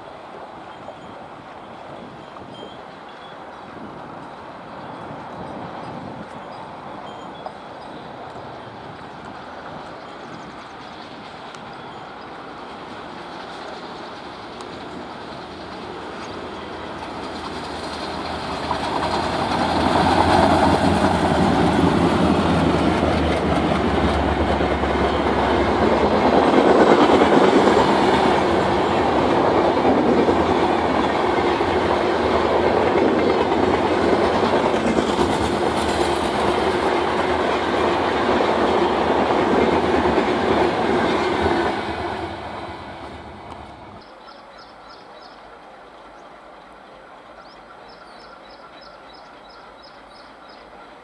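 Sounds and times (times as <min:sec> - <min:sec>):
diesel locomotives passing: 0:00.0 - 0:51.0
train coaches rolling past: 0:00.0 - 0:51.0.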